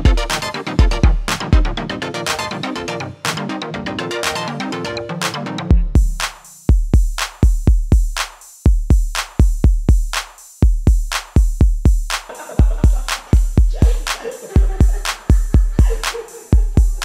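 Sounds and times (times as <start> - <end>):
drum machine beat: 0.0 - 3.6, 5.2 - 17.0.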